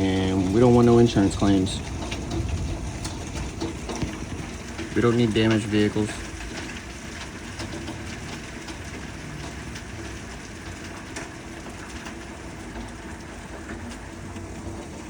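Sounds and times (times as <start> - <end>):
hailstones tapping surfaces: 0.0 - 15.0
heavy rain falling: 0.0 - 15.0.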